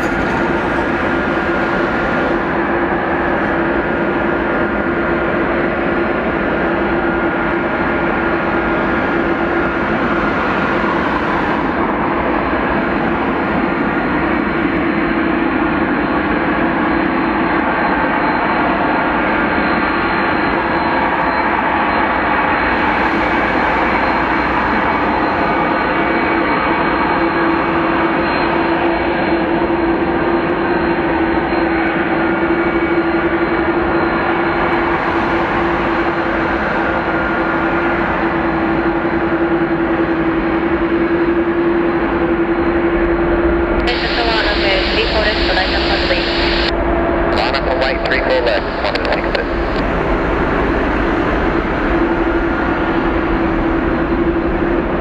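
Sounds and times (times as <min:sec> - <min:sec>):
jet engines at takeoff thrust: 0:00.0 - 0:55.0.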